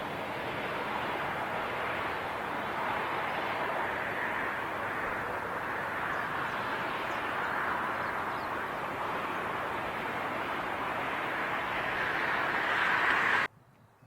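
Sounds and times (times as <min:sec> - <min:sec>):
jet airliner engines rushing: 0:00.0 - 0:13.5.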